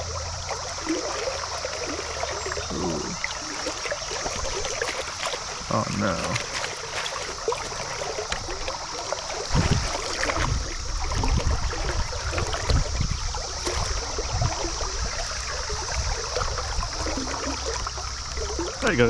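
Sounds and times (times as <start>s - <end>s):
low thumps and splashes: 0.0s - 19.0s
stream water running: 0.0s - 19.0s.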